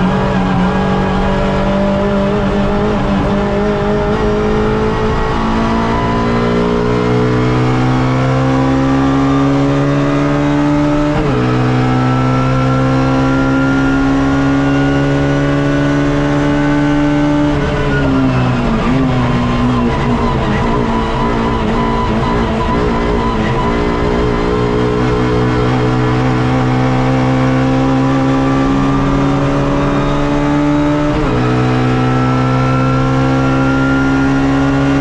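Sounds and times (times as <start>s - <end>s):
race car engine accelerating: 0.0s - 35.0s.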